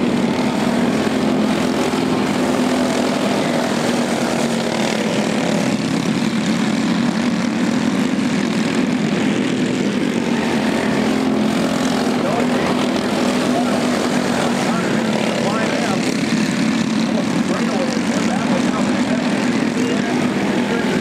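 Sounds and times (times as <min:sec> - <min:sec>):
go-kart engines droning: 0:00.0 - 0:21.0.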